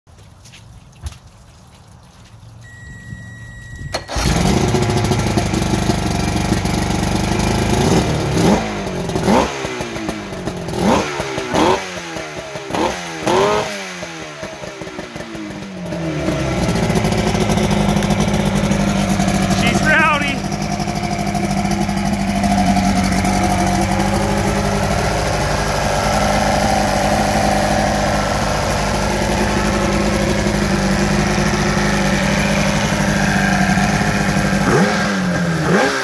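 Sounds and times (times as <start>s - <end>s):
outboard motor revving: 3.9s - 36.0s.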